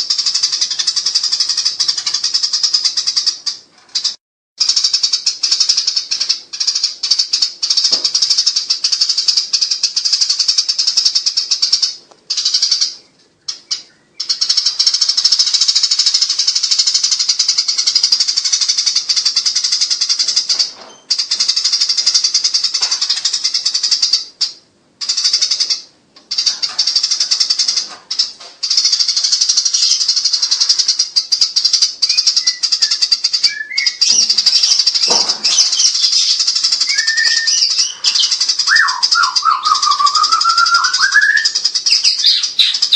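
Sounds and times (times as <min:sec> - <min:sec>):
sparrows chattering: 0:00.0 - 0:42.9.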